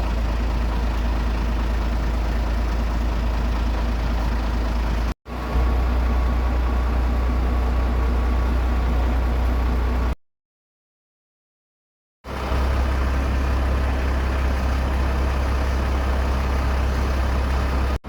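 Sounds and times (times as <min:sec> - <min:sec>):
low engine rumble: 0:00.0 - 0:10.2, 0:12.3 - 0:18.0.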